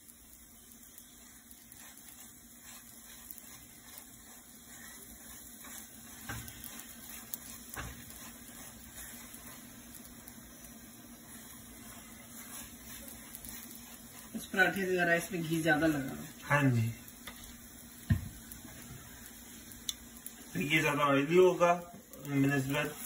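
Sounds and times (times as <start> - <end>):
flatbread sizzling on a pan: 0.0 - 23.0
steady low hum: 0.0 - 23.0.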